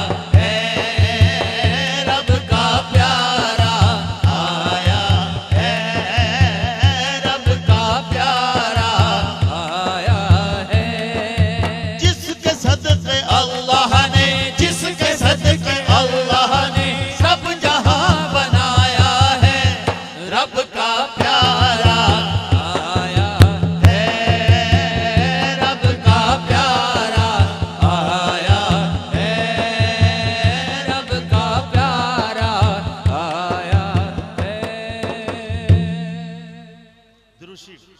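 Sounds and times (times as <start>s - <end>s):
man singing into a microphone: 0.0s - 37.9s.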